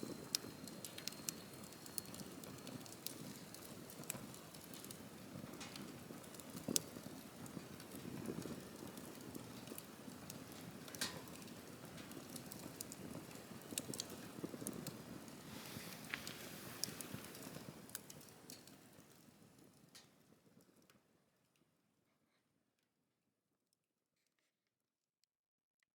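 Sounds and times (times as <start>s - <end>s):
flames rustling: 0.0s - 20.9s
fire crackling and popping: 0.0s - 21.0s.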